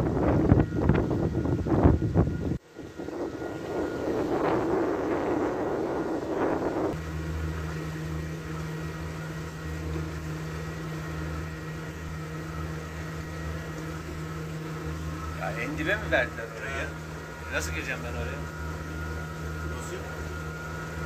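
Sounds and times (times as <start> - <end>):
outboard motor droning: 0.0 - 21.0
rushing wind and water: 0.0 - 21.0.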